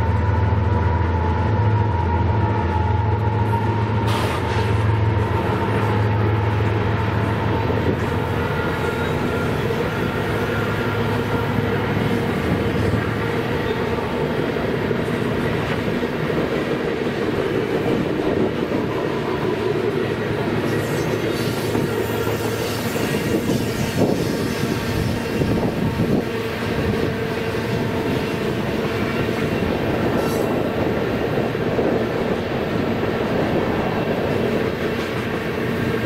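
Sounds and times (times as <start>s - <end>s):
diesel locomotive drone: 0.0s - 36.0s
train wheels clickety-clack on rails: 0.0s - 36.0s.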